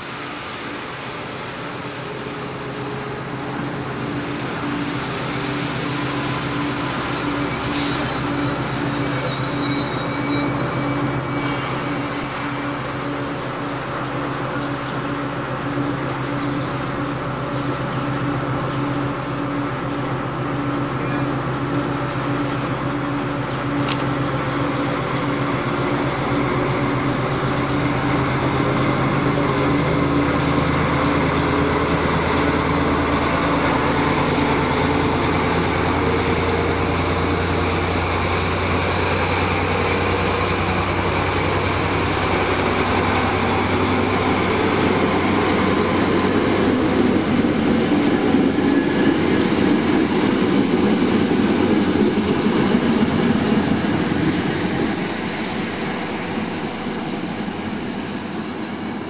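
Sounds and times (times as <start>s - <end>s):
locomotive engine humming: 0.0s - 59.0s.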